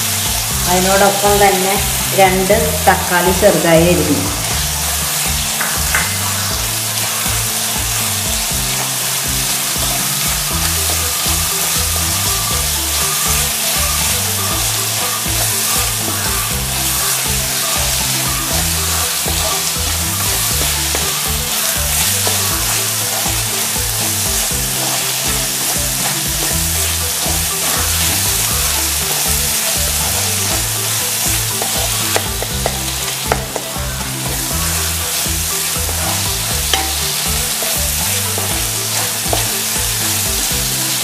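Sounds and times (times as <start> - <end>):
onions sizzling in oil: 0.0 - 41.0
wooden spatula stirring: 0.1 - 41.0.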